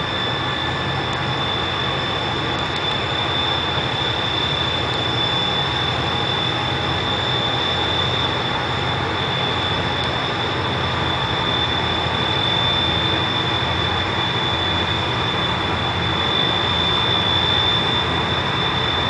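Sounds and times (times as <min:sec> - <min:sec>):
diesel engines droning: 0:00.0 - 0:19.0
high-pitched whine: 0:00.0 - 0:19.0.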